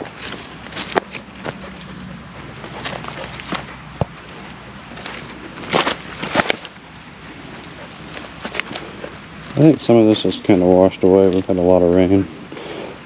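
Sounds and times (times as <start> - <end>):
footsteps crunching through leaves: 0.0 - 11.5.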